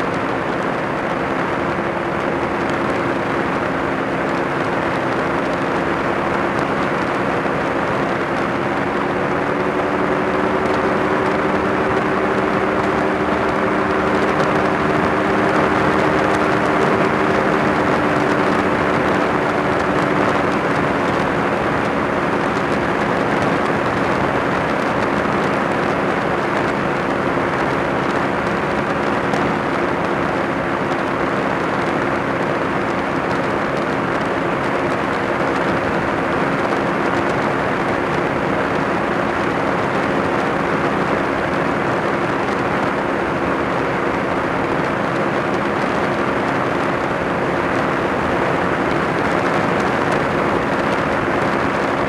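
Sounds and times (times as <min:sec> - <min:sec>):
aircraft engine and propeller drone: 0:00.0 - 0:52.0
rushing airflow: 0:00.0 - 0:52.0.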